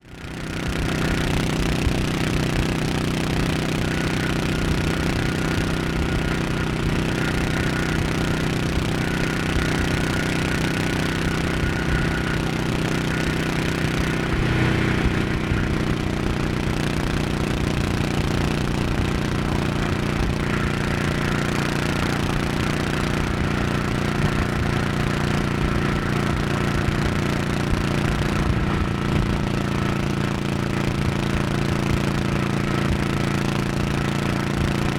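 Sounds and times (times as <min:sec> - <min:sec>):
motorcycle engine cruising: 0:00.0 - 0:34.9.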